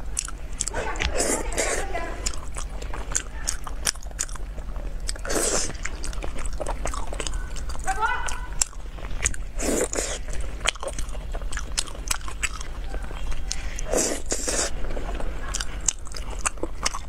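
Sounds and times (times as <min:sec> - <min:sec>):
sticky mouth clicks and smacks: 0:00.0 - 0:17.0
wet chewing and biting: 0:00.0 - 0:17.0.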